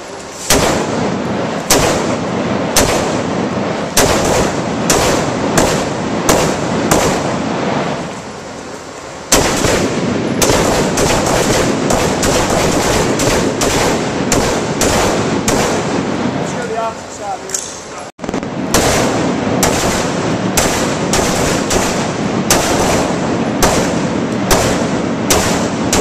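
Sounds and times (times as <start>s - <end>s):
rapid gunfire echoing indoors: 0.5s - 8.1s, 9.3s - 16.5s, 18.2s - 26.0s.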